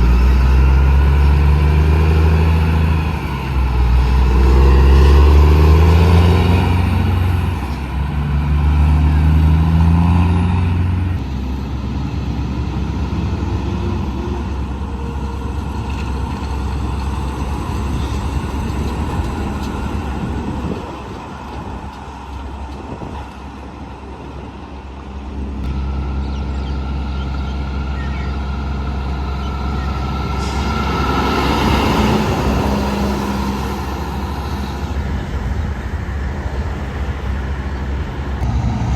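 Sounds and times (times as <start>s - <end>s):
truck engine revving: 0.0s - 21.6s, 25.6s - 35.4s
diesel trucks driving past: 0.0s - 38.9s.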